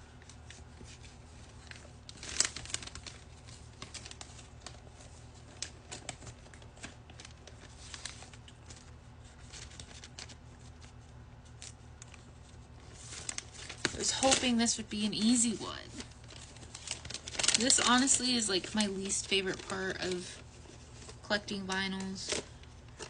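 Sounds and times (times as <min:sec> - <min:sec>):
paper sleeve rustling and sliding: 0:00.0 - 0:21.2.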